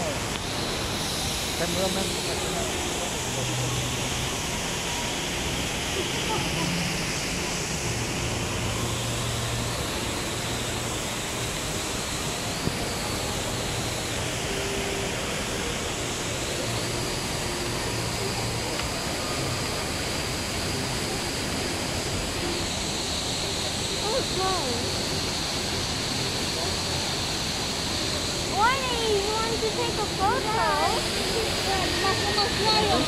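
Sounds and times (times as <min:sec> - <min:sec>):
indoor waterfall rushing: 0:00.0 - 0:33.0.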